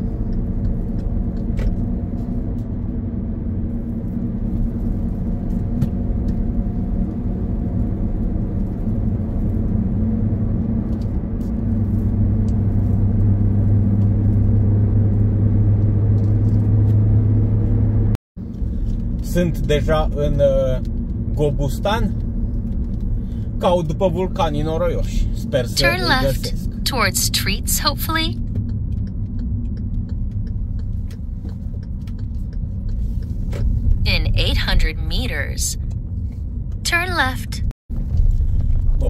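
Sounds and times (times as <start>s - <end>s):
car engine and tyre drone: 0.0s - 37.2s, 37.9s - 39.0s
deep low hum: 0.0s - 39.0s.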